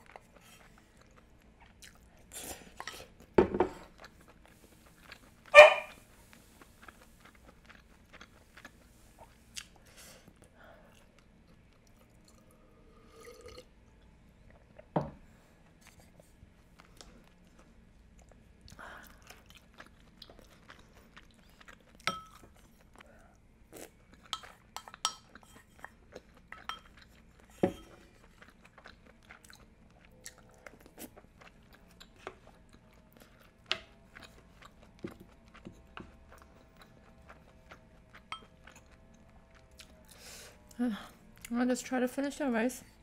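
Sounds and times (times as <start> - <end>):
chewing and mouth sounds: 0.0 - 14.9, 15.6 - 41.6.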